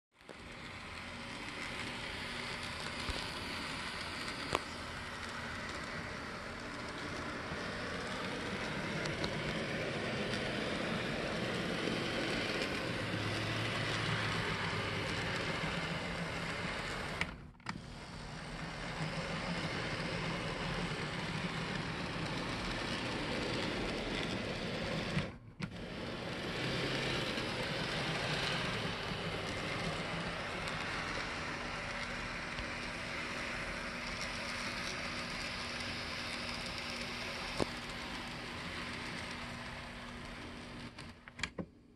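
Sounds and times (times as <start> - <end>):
wheels rattling on rails: 0.3 - 17.2, 18.1 - 41.1
small electric motor humming: 0.3 - 41.0.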